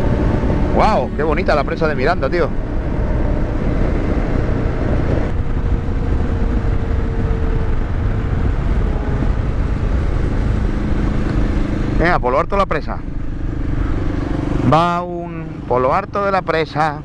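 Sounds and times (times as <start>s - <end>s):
wind rumble on microphone: 0.0s - 16.6s
motorcycle engine running: 0.0s - 17.0s.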